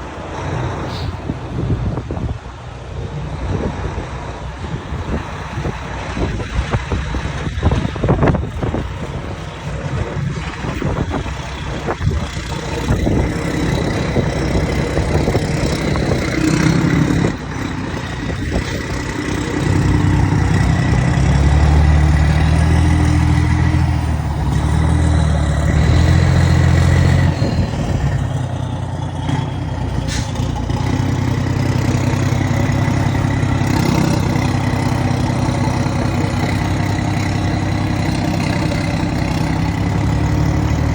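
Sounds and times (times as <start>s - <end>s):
diesel truck engine rumbling: 0.0s - 40.9s.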